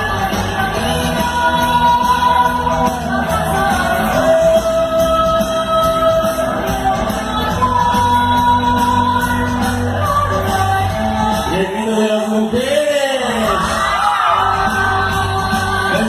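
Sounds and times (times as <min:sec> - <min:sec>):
live band with singer: 0:00.0 - 0:16.0
steady bass: 0:00.0 - 0:16.0.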